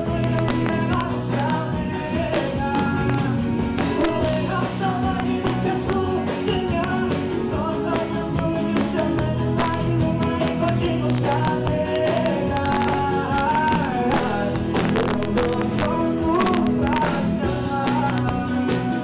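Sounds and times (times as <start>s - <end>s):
live band music: 0.0s - 19.0s
person singing: 0.0s - 19.0s.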